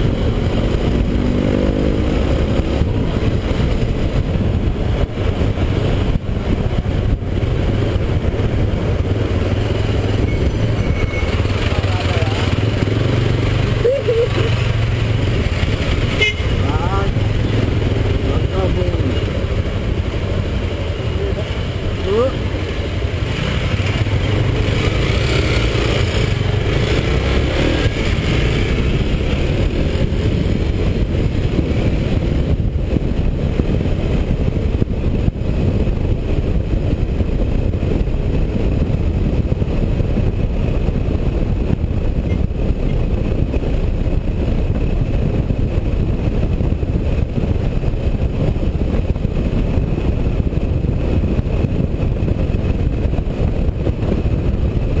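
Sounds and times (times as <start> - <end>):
motorcycle engine: 0.0 - 55.0
road and wind noise: 0.0 - 55.0.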